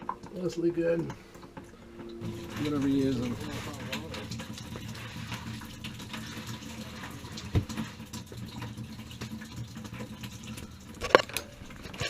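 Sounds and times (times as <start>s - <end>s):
water running from a pipe: 0.0s - 12.0s.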